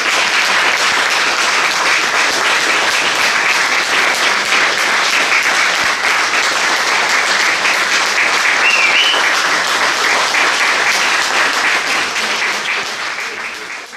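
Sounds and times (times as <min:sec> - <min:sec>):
large audience applauding: 0:00.0 - 0:13.9.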